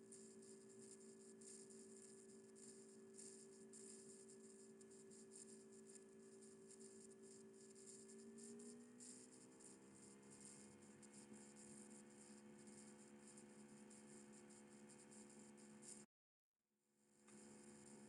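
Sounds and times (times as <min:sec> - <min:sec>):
faint multi-tone hum: 0:00.0 - 0:16.1, 0:17.2 - 0:18.0.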